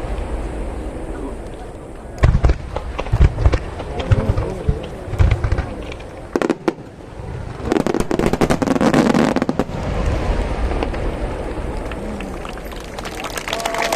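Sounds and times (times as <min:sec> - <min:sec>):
firework boom: 0:00.0 - 0:12.6
low rumble: 0:00.0 - 0:13.8
firework cracks: 0:00.0 - 0:13.9
rapid firework crackling: 0:00.0 - 0:13.9.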